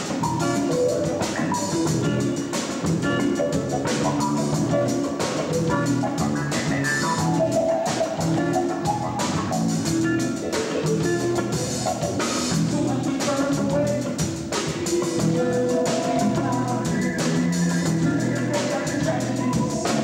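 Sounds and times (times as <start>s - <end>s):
electric guitar: 0.0s - 20.0s
keyboard: 0.0s - 20.0s
steady drum beat: 0.0s - 20.0s.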